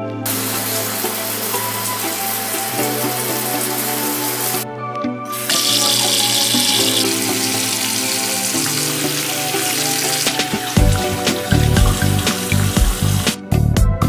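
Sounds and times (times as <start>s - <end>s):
background music: 0.0s - 14.0s
faucet running into sink: 0.3s - 4.6s, 5.3s - 13.4s
shower spray: 0.3s - 4.6s, 5.3s - 13.4s.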